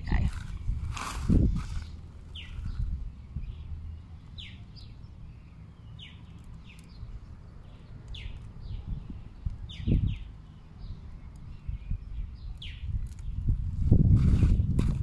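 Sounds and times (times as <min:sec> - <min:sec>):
small bird chirping: 0:01.6 - 0:13.6.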